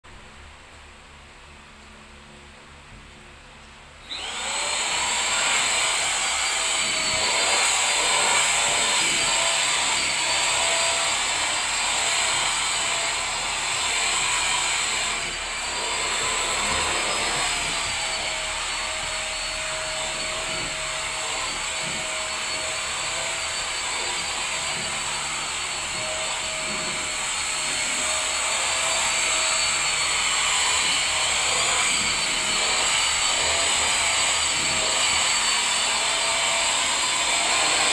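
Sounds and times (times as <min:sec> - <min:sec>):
handheld vacuum cleaner running: 0:04.0 - 0:37.9.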